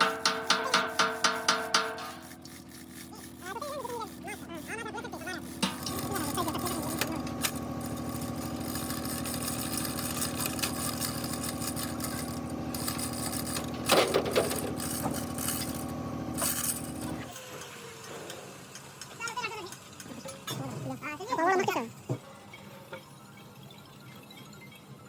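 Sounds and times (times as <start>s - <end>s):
motor running steadily: 0.0s - 25.0s.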